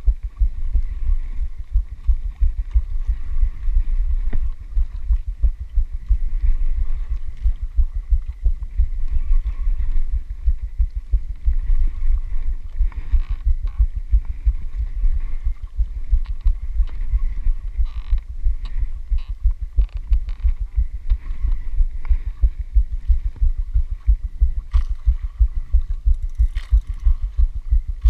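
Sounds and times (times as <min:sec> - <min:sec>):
boat low rumble and buffeting: 0:00.0 - 0:28.0
faint steady hum: 0:00.0 - 0:28.0.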